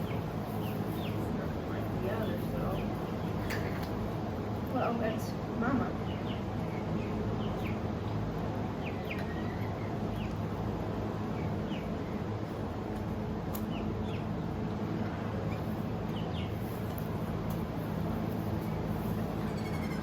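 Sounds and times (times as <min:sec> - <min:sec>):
small birds chirping: 0:00.0 - 0:20.0
steady low hum: 0:00.0 - 0:20.0.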